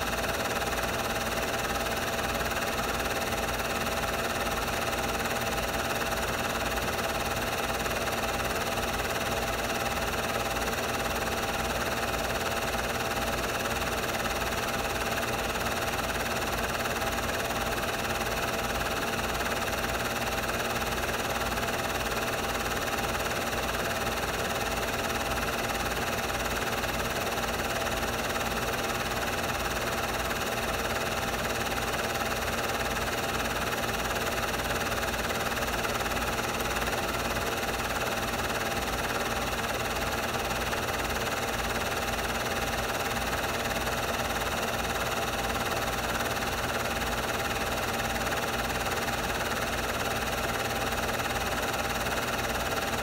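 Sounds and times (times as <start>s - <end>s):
film projector whirring: 0.0s - 53.0s
mechanical film flutter: 0.1s - 53.0s.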